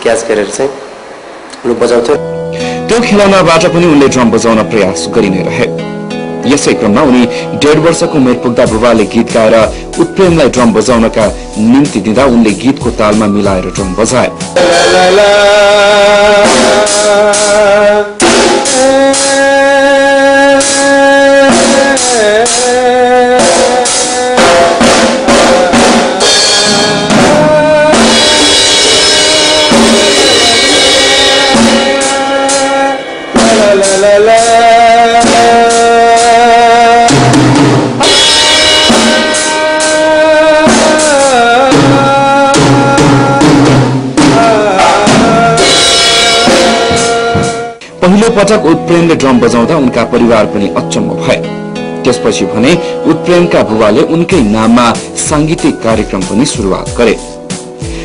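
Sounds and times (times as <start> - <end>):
song with sliding melody: 0.8 - 58.0
child playing drum kit: 7.0 - 50.4, 54.4 - 58.0.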